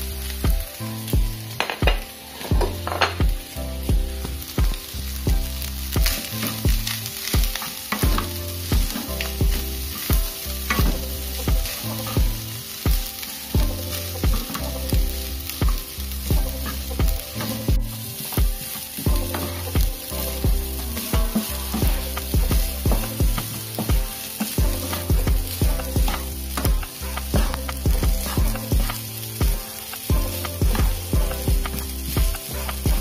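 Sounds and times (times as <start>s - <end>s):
background music with bass: 0.0s - 33.0s
fried rice sizzling in a pan: 0.0s - 33.0s
spatula knocking and scraping pan: 1.2s - 3.4s, 4.0s - 33.0s.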